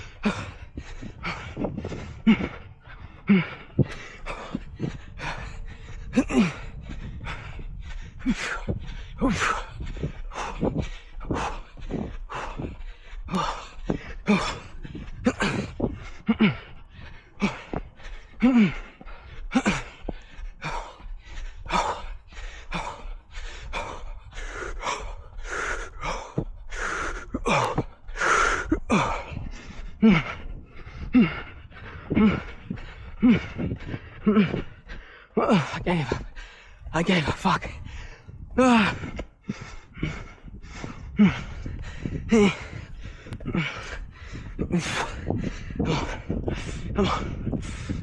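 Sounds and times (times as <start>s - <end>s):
runner panting: 0.0s - 48.0s.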